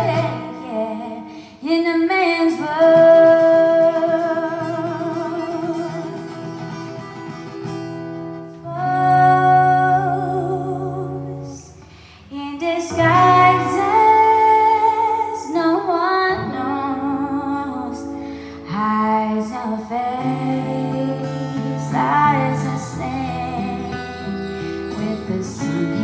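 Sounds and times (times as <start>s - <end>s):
strummed acoustic guitar: 0.0s - 1.4s, 2.4s - 15.5s, 16.2s - 26.0s
woman singing wordless notes: 0.0s - 6.6s, 8.6s - 26.0s.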